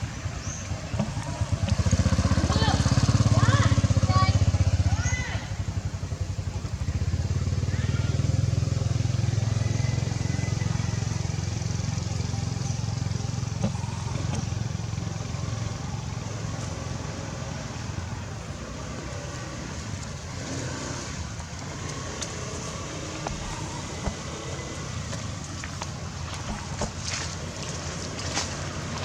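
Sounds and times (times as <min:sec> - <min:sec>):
outdoor background noise: 0:00.0 - 0:29.0
vehicle engine rumble: 0:00.0 - 0:29.0.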